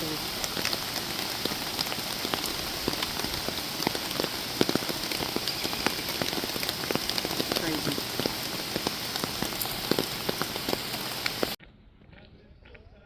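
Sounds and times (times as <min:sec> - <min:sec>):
raindrops ticking: 0:00.0 - 0:11.6
steady rain: 0:00.0 - 0:11.6.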